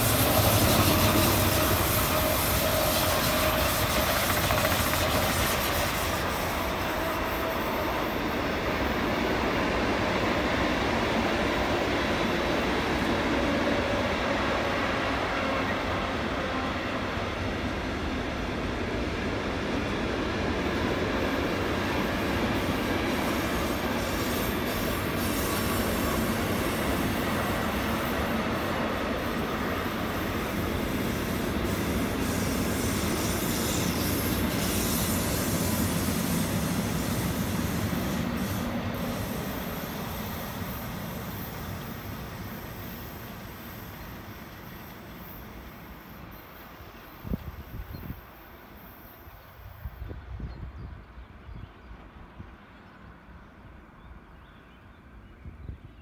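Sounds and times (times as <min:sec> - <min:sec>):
freight train wheels on rails: 0:00.0 - 0:54.2.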